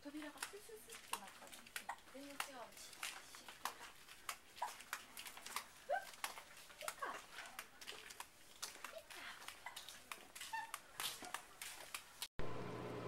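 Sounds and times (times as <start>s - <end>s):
footsteps clicking on pavement: 0.0s - 12.3s.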